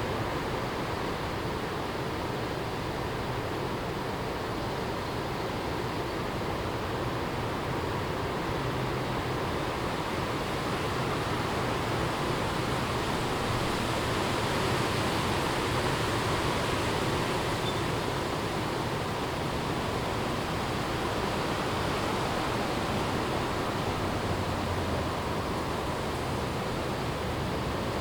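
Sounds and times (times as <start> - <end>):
wind through trees: 0.0 - 28.0.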